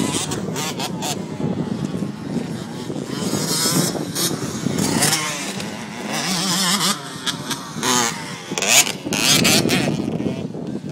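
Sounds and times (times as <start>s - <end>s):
motorbike engines revving: 0.0s - 10.9s.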